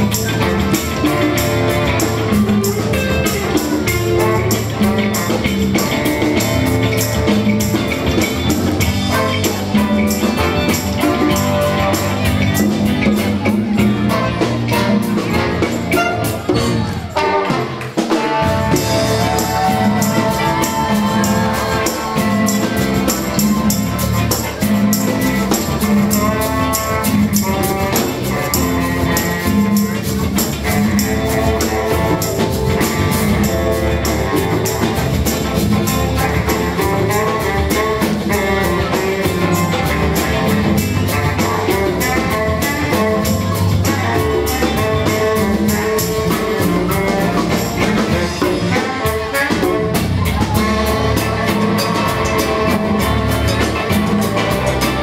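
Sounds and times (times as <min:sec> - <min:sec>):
baritone saxophone: 0:00.0 - 0:55.0
live band with horns: 0:00.0 - 0:55.0.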